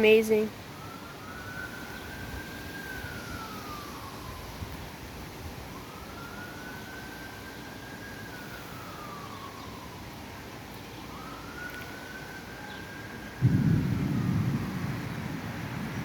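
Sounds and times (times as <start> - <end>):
siren wailing: 0.7 - 5.0, 5.6 - 16.0.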